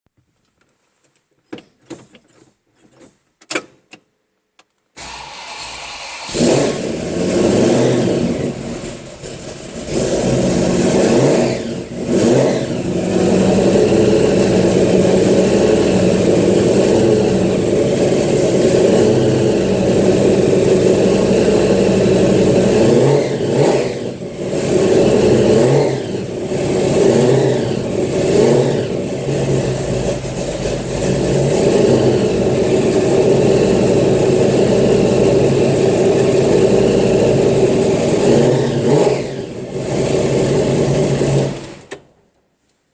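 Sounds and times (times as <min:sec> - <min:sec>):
engine cranking and revving: 0:05.0 - 0:42.1.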